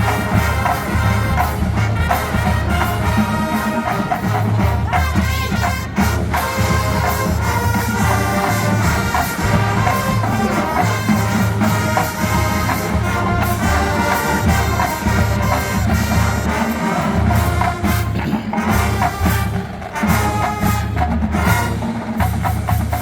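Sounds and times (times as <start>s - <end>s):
marching band brass: 0.0s - 23.0s.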